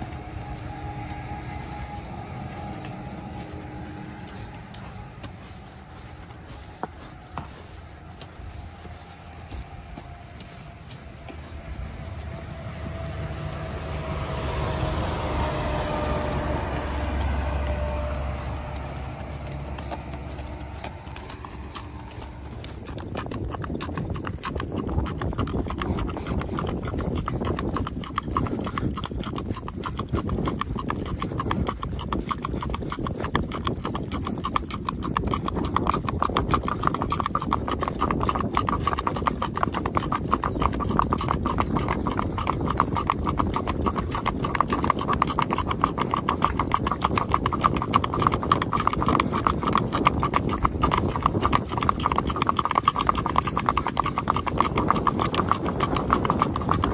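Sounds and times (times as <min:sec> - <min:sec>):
horse hooves clip-clopping: 0:00.0 - 0:56.9.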